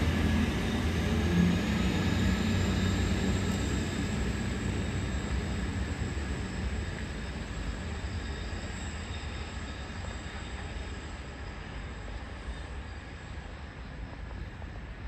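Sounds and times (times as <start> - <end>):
distant trains rumbling: 0.0 - 15.0.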